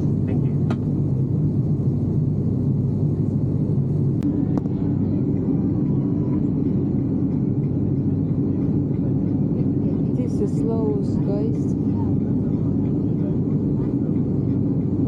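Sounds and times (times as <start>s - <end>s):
airplane engine drone in cabin: 0.0s - 15.0s.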